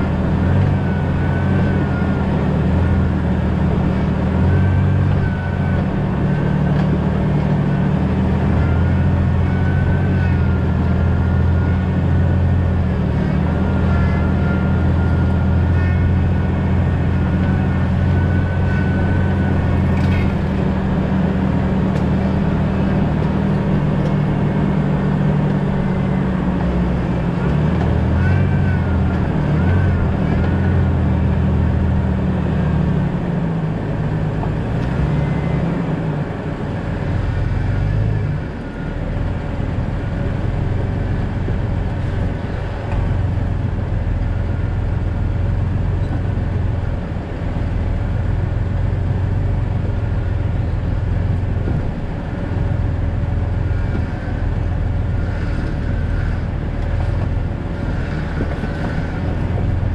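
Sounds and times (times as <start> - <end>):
car engine running: 0.0 - 59.9
road and tyre noise: 0.0 - 59.9.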